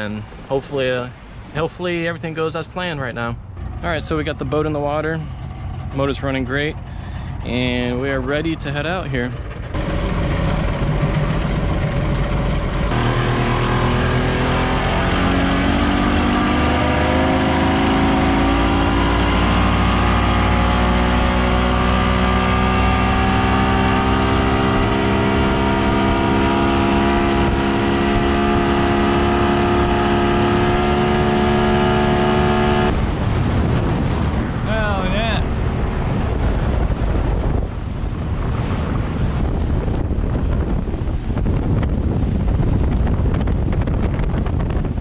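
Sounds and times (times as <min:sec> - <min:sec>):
outboard motor running: 0:03.5 - 0:45.0.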